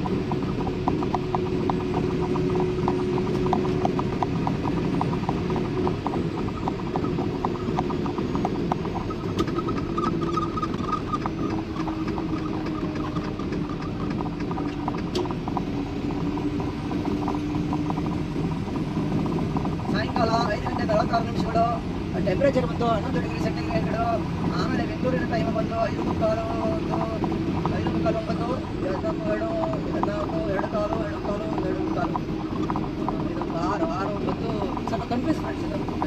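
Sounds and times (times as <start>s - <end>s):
rapid light ticking: 0.0s - 36.0s
vehicle road and engine drone: 0.0s - 36.0s.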